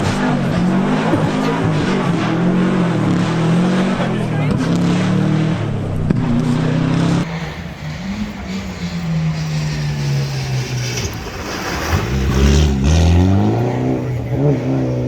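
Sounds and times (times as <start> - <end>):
engine revving up: 0.0 - 15.0
rally car engine: 0.0 - 15.0.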